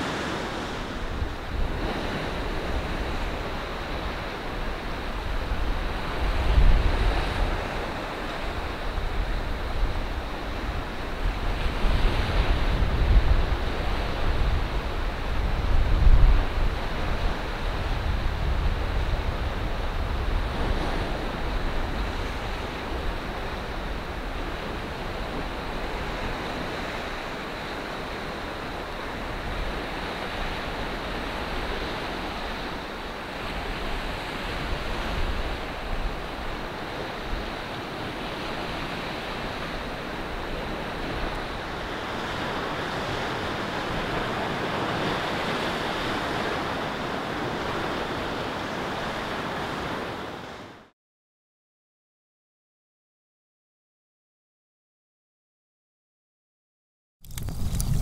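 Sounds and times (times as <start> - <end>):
surf washing against rocky shore: 0.0 - 50.7
wind gusting across microphone: 0.0 - 50.9, 57.2 - 58.0.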